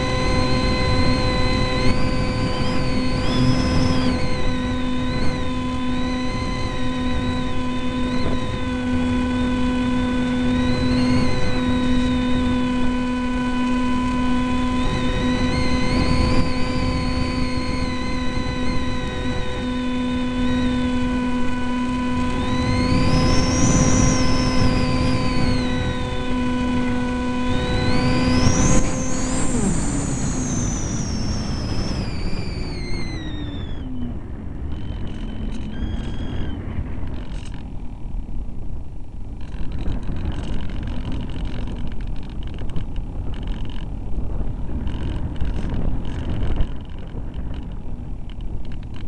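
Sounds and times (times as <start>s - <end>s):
rushing airstream: 0.0s - 43.8s
electric motor high whine: 0.0s - 49.0s
steady motor hum: 0.0s - 49.0s.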